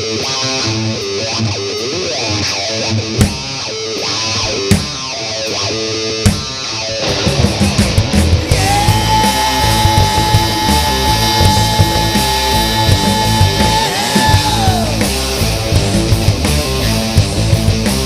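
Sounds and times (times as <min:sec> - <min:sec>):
distorted electric guitar riff: 0:00.0 - 0:18.0
rock band playing live: 0:00.0 - 0:18.0.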